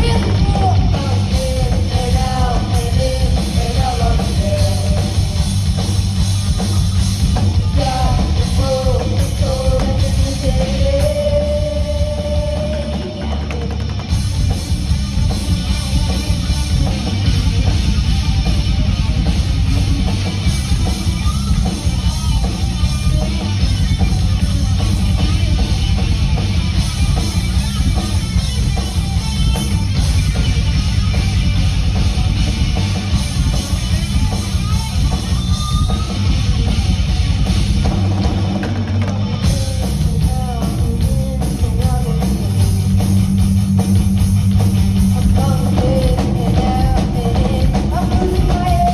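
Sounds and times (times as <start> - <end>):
hard rock band playing live: 0.0 - 48.9.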